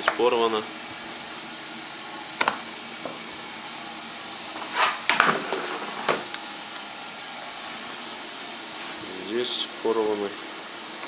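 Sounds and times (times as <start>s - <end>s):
ventilation hum: 0.0s - 11.0s.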